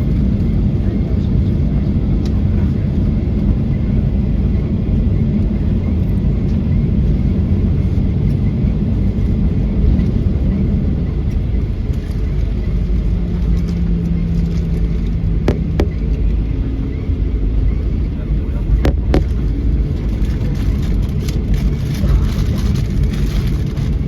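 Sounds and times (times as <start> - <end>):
aircraft cabin engine rumble: 0.0 - 24.0
steady hum: 0.0 - 24.0.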